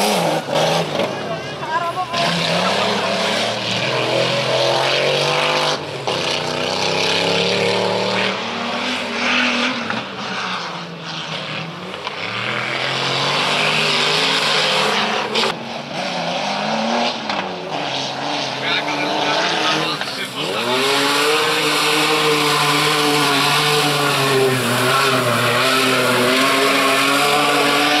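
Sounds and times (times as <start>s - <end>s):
off-road engines revving: 0.0s - 28.0s.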